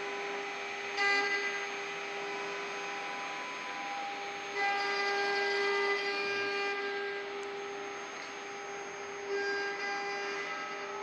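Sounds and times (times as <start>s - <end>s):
lathe machine whine: 0.0s - 11.0s.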